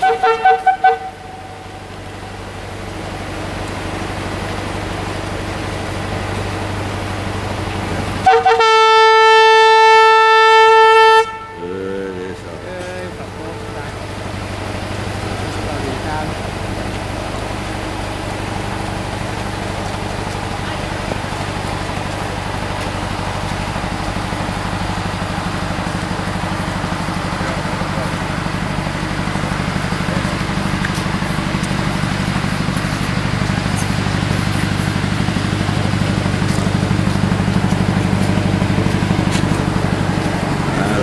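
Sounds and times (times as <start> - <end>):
locomotive low drone: 0.0 - 41.0.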